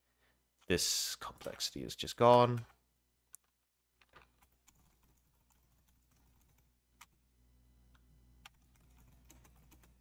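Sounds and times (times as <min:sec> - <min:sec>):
faint keyboard typing: 0:00.6 - 0:07.2, 0:07.9 - 0:10.0.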